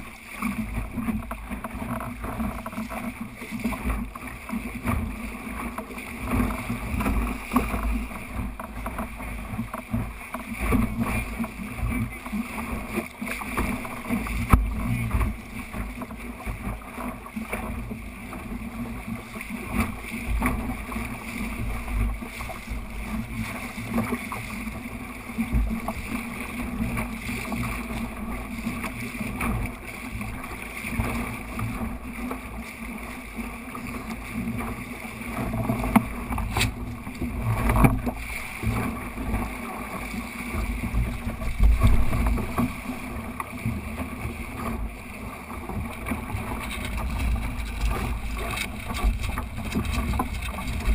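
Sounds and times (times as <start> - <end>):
water rushing along boat hull: 0.0 - 50.9.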